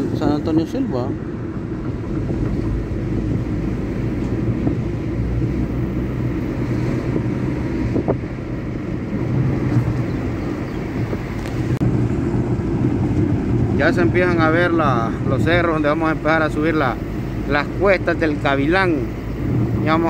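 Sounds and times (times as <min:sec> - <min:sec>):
road and engine noise in car: 0:00.0 - 0:20.0.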